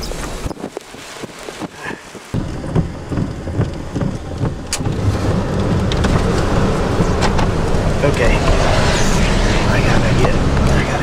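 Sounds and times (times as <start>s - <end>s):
low rumble of wind: 0.0s - 11.0s
raindrops ticking: 0.0s - 11.0s.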